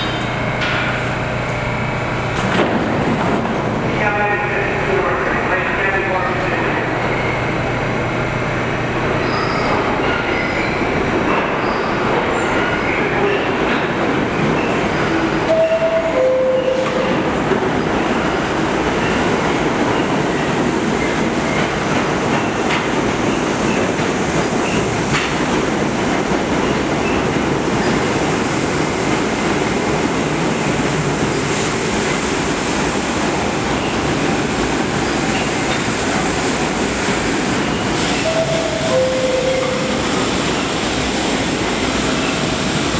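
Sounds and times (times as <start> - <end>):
subway train noise: 0.0 - 42.9.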